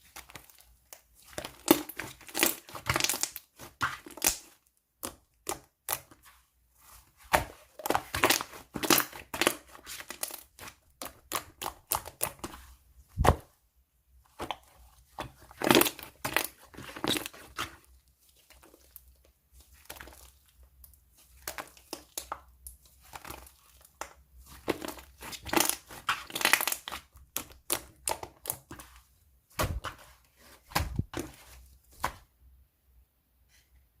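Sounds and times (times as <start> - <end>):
slime squishing by hand: 0.0 - 13.6, 14.2 - 32.4.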